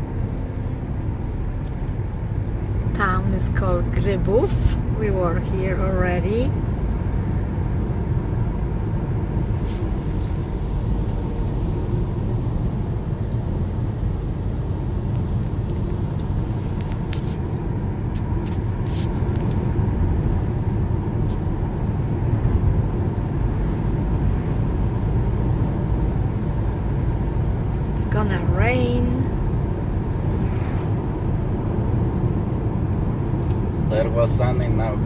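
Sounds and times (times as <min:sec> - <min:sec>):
car cabin road and engine rumble: 0:00.0 - 0:35.0.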